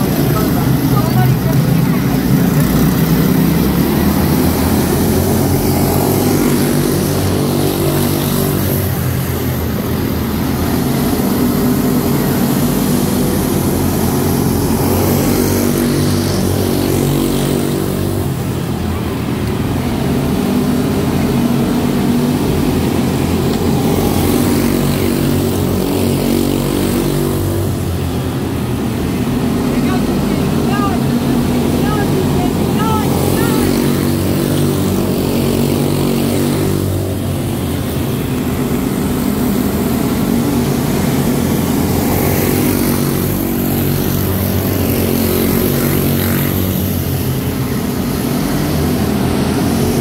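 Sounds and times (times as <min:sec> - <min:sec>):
small race car engines droning: 0:00.0 - 0:50.0.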